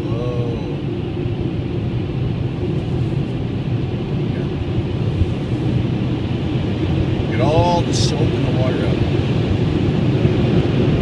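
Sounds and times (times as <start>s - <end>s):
dryer blowers rushing air: 0.0s - 11.0s.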